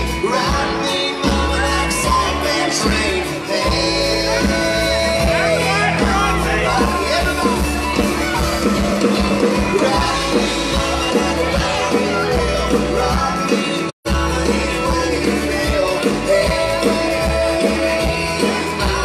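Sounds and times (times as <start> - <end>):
lead vocal singing: 0.0 - 19.0
live band playing: 0.0 - 19.0.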